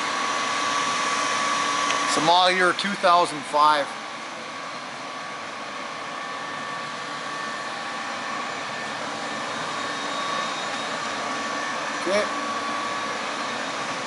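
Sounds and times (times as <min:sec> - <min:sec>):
grinder motor whirring: 0:00.0 - 0:14.0.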